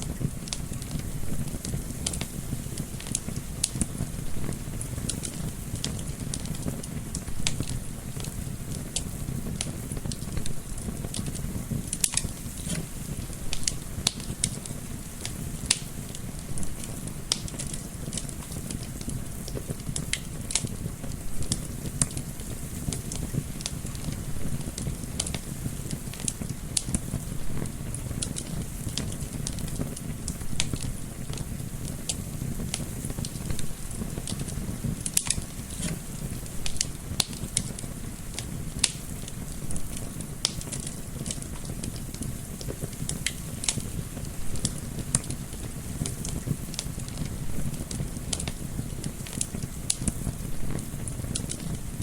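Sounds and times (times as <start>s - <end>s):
low rumble of flame: 0.0s - 52.0s
wood fire crackling and popping: 0.0s - 52.0s.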